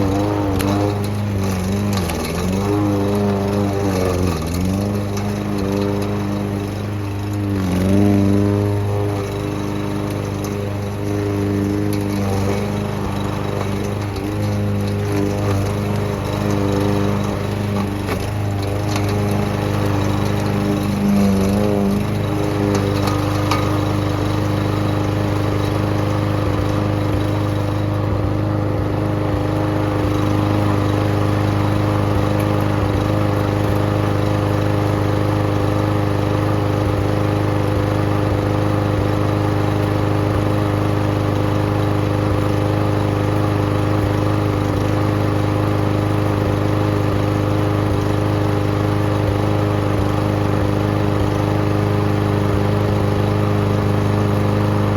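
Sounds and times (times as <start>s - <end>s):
garden shredder engine grinding: 0.0s - 54.9s.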